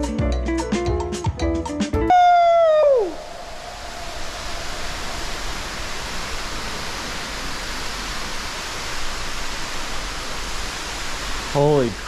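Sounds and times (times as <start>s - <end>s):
underground waterfall rushing: 2.1s - 12.0s.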